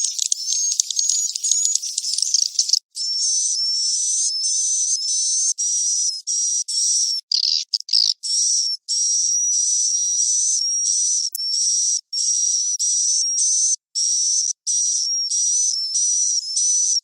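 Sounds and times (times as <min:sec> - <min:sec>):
buzzy twittering bird chirps: 0:00.0 - 0:17.0.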